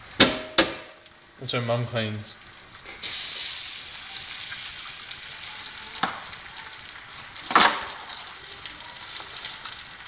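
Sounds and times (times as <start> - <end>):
eggs sizzling in oil: 0.0 - 10.0
sharp cracks from frying pan: 0.1 - 1.2, 2.4 - 10.0.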